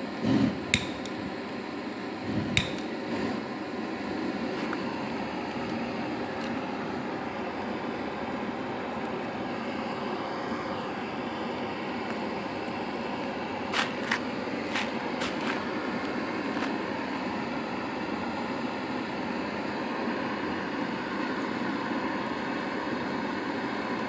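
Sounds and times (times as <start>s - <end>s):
flame gun hissing: 0.0s - 23.7s.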